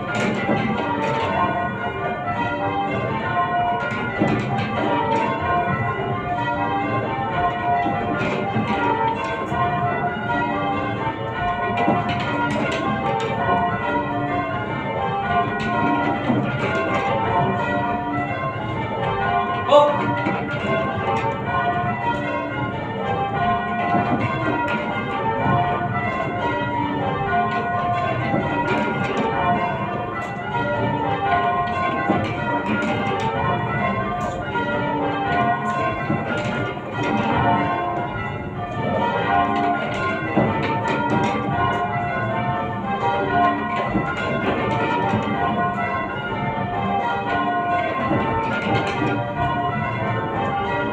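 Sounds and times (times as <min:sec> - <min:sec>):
church bells change-ringing: 0:00.0 - 0:50.9.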